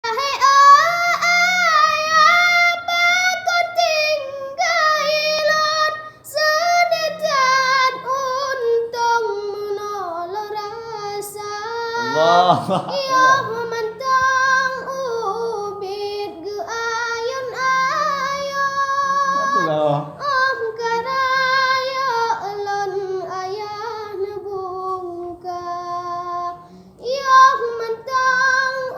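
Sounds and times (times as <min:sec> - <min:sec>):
person singing unaccompanied: 0:00.0 - 0:28.9.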